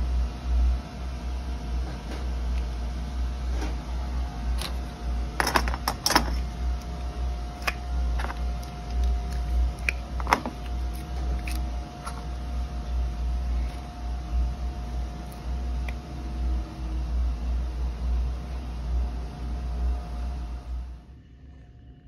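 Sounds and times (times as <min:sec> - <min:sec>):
faint whine: 0:00.0 - 0:22.0
low shop hum: 0:00.0 - 0:22.0.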